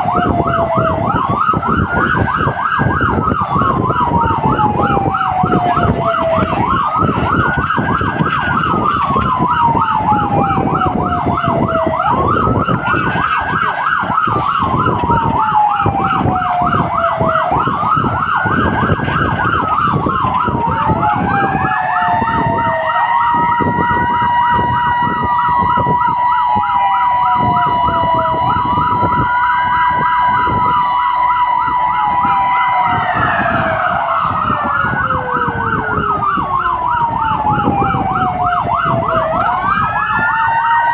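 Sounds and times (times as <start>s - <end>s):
siren fast yelp: 0.0s - 40.9s
siren slow wail: 0.0s - 40.9s
steady high siren tone: 0.0s - 40.9s.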